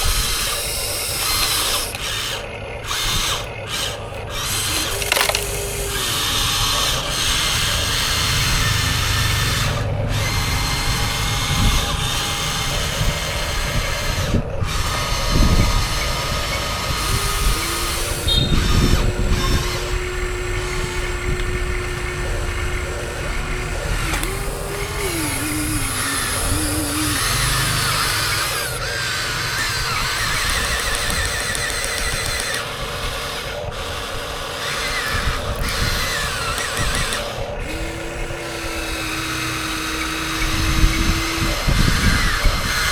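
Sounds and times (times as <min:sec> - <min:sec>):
electric motors whining: 0:00.0 - 0:42.9.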